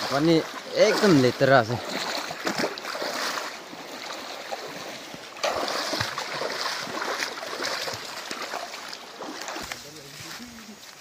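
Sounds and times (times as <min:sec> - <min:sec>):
feet wading through water: 0:00.0 - 0:11.0.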